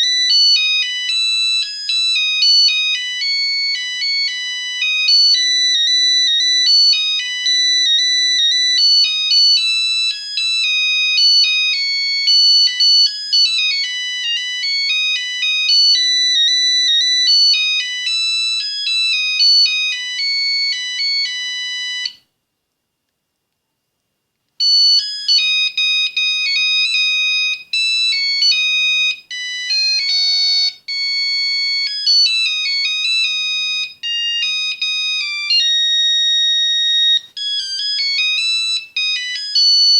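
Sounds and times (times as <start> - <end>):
electronic ringtone melody: 0.0 - 22.2, 24.6 - 39.9.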